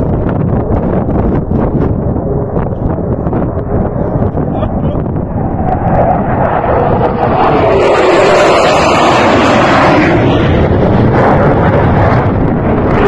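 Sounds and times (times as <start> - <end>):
jet engine fly-by roar: 0.0 - 13.0.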